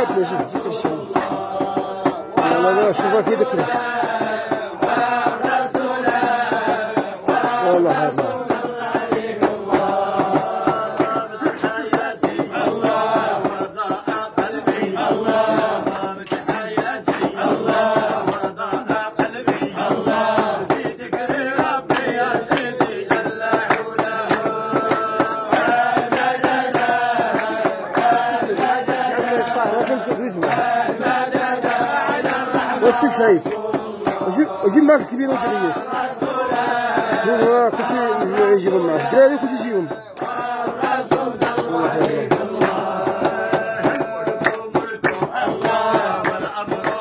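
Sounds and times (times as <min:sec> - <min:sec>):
men chanting together: 0:00.0 - 0:47.0.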